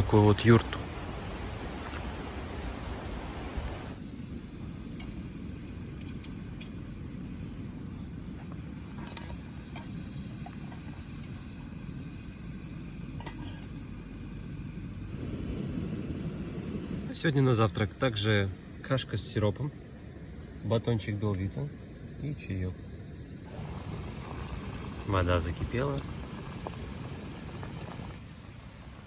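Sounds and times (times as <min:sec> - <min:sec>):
gas stove burner rushing: 0:03.8 - 0:28.2.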